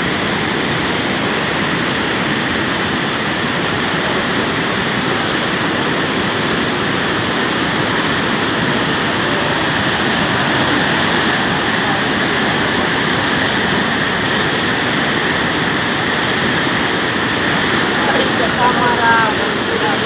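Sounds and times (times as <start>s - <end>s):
floodwater roaring through dam: 0.0s - 20.0s.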